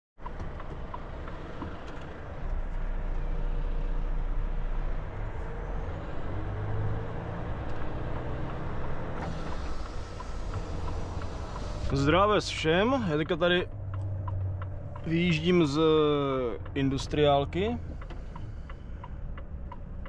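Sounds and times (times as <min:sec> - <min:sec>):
truck diesel engine rumbling: 0:00.2 - 0:20.0.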